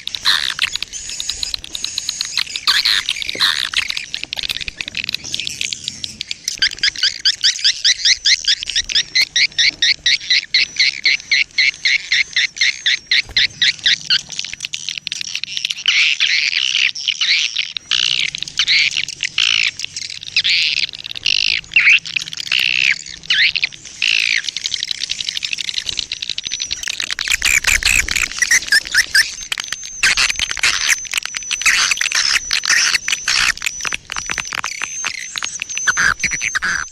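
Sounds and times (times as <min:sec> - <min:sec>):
songbird singing: 0:00.0 - 0:36.9.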